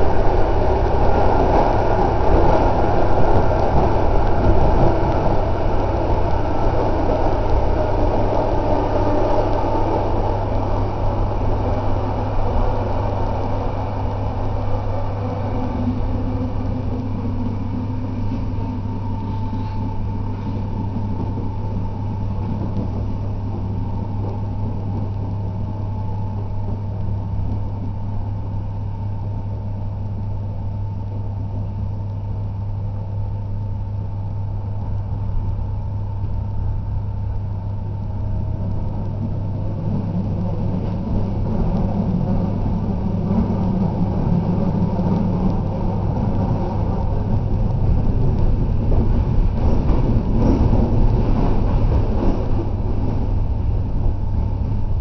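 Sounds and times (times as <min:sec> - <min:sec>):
constant low hum: 0:00.0 - 0:55.0
train wheels rumbling on track: 0:00.0 - 0:55.0.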